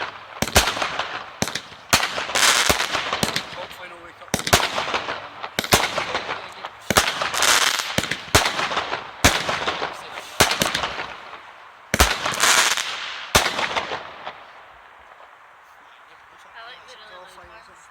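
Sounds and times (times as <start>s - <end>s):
fireworks hiss: 0.0s - 16.7s
fireworks bangs: 0.0s - 17.2s.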